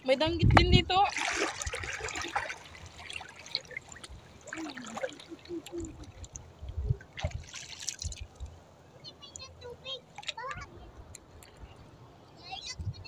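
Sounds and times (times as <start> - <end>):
seawater trickling and splashing: 0.8 - 12.5.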